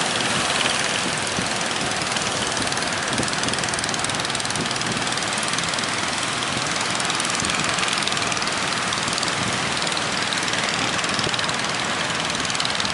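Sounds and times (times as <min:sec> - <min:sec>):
boat engine running: 0:00.0 - 0:12.9
waves: 0:00.0 - 0:12.9
wind: 0:00.0 - 0:12.9.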